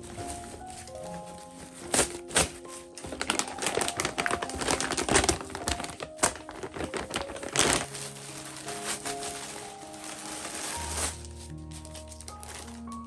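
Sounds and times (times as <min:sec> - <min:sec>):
plastic packaging crinkling: 0:00.0 - 0:13.0
plastic ripping: 0:00.0 - 0:13.0.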